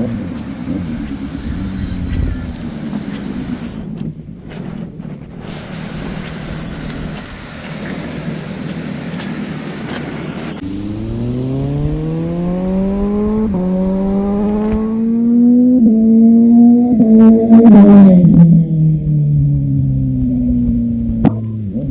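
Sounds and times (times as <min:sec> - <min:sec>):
motorcycle engine accelerating: 0:00.0 - 0:21.9
wind and road noise: 0:00.0 - 0:21.9.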